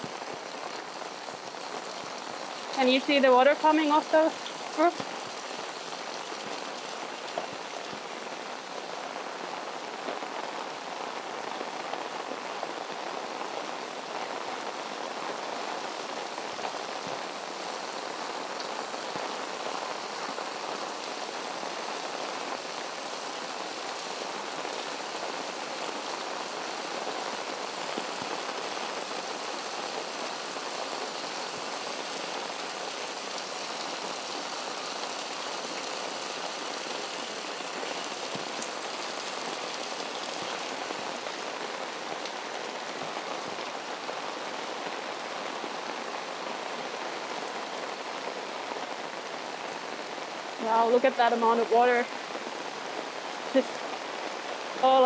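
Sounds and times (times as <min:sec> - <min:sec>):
heavy rain falling: 0:00.0 - 0:55.0
water pouring off roofs: 0:00.0 - 0:55.0.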